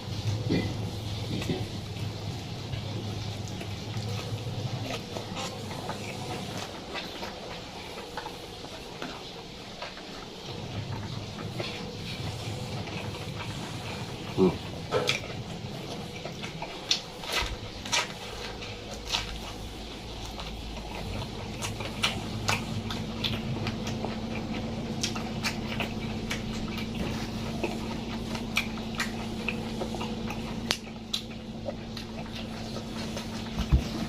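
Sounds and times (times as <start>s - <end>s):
person chewing food: 0.0s - 34.0s
steady low hum: 0.0s - 34.0s.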